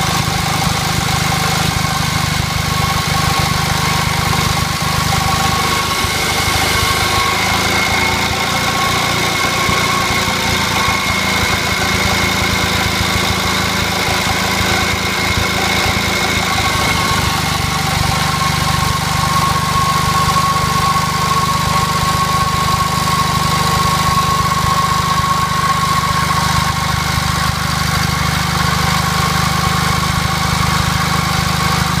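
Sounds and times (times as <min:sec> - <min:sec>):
high whine: 0:00.0 - 0:29.8
stationary engine running a generator: 0:00.0 - 0:32.0.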